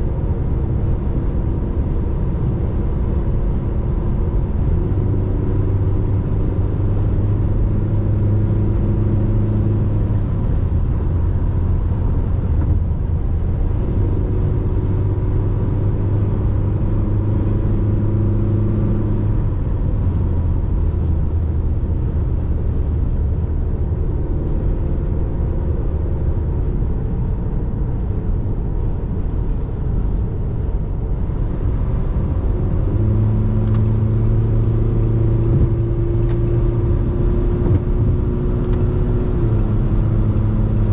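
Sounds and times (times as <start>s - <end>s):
road noise: 0.0s - 40.9s.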